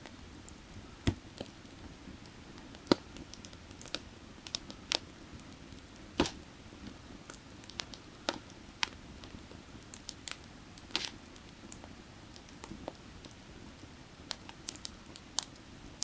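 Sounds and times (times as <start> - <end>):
firewood crackling: 0.2 - 16.0.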